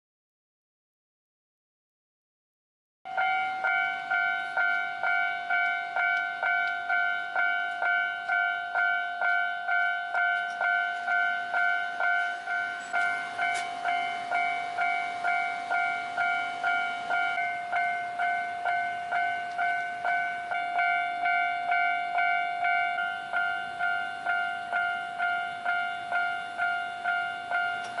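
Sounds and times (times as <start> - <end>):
level-crossing alarm ringing: 3.1 - 28.0.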